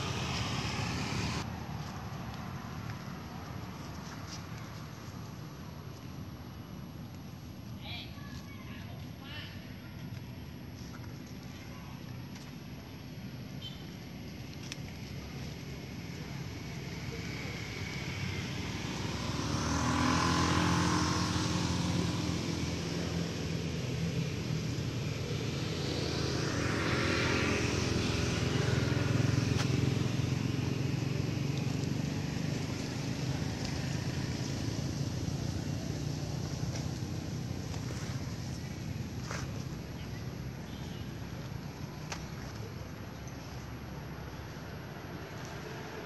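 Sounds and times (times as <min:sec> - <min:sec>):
vehicle engine hum: 0:00.0 - 0:46.0.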